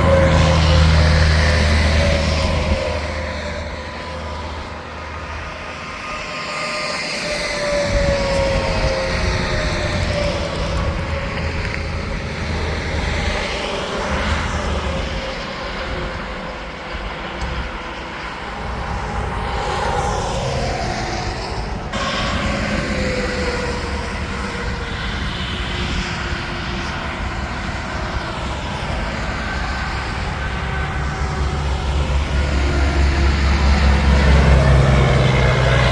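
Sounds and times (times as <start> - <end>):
diesel engine rumble: 0.0 - 35.9
trucks passing on highway: 0.0 - 35.9.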